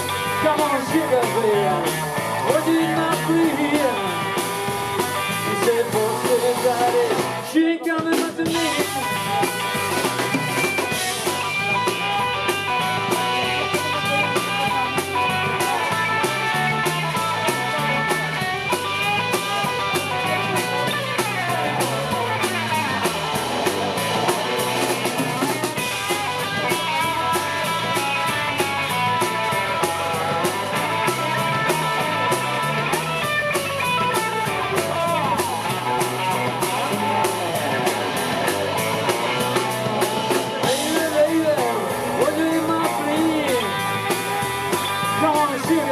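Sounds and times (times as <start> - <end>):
electric guitar lines: 0.0 - 7.6, 8.4 - 45.9
bass guitar: 0.0 - 45.9
drum kit beat on cymbals: 0.0 - 45.9.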